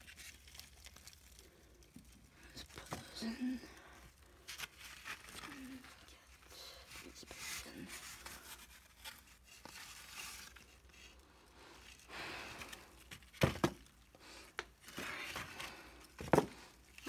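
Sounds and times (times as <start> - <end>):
cardboard egg crates rustling: 0.0 - 17.0.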